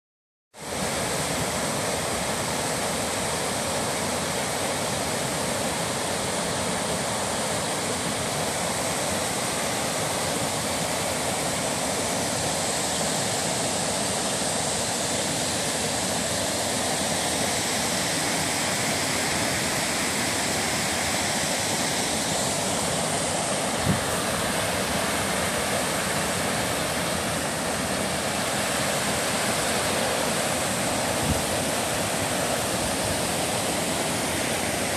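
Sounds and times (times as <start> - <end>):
water cascading over rocks: 0.6 - 34.9.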